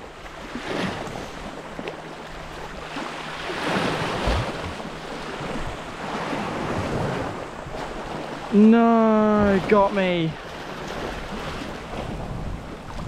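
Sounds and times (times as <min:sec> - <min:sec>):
sea waves on rocky shore: 0:00.0 - 0:13.0
wind buffeting microphone: 0:02.5 - 0:13.0.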